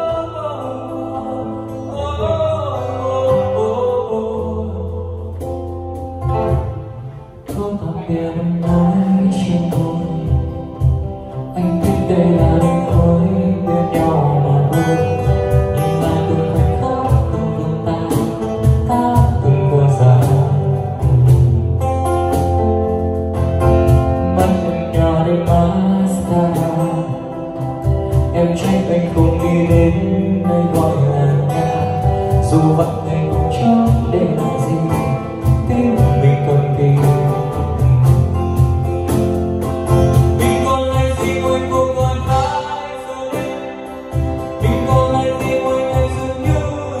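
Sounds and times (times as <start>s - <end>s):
pop song over loudspeakers: 0.0s - 47.0s.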